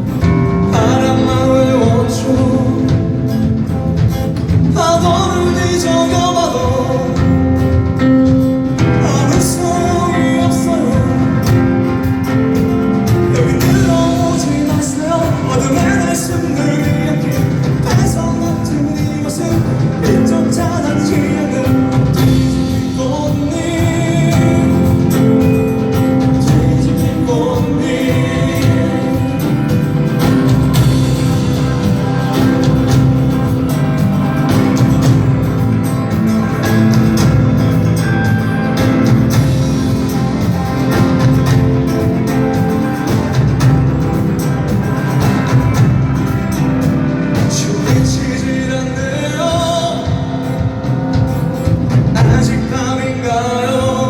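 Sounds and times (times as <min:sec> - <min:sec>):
live rock band playing: 0:00.0 - 0:54.0
wavering lead melody: 0:00.0 - 0:54.0.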